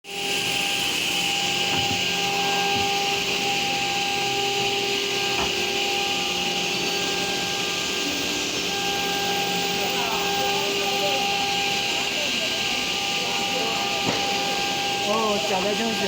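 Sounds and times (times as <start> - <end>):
router machine hiss and whine: 0.1 - 16.0.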